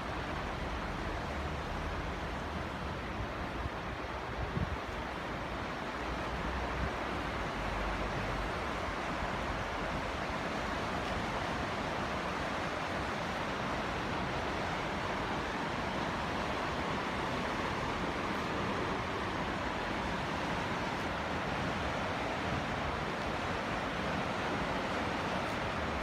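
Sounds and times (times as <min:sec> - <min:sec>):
water rushing over waterfall: 0:00.0 - 0:26.0.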